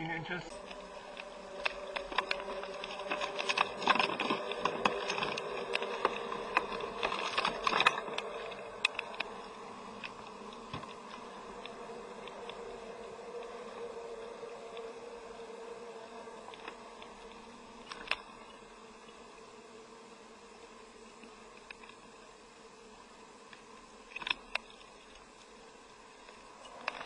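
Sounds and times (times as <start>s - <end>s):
faint buzzing hum: 0.0s - 27.0s.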